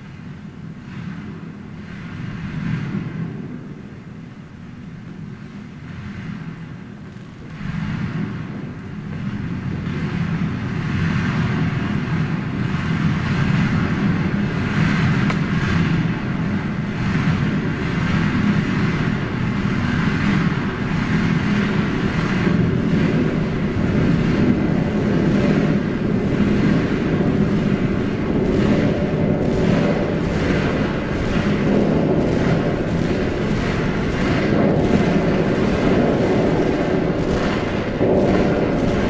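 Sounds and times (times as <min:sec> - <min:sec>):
swung tube whooshing: 0:07.4 - 0:39.0.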